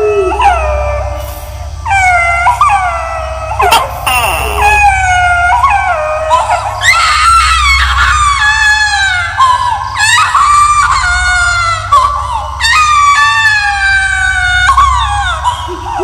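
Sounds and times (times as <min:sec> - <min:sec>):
ghostly baby wailing cries: 0:00.0 - 0:16.0
low drone: 0:00.0 - 0:16.0.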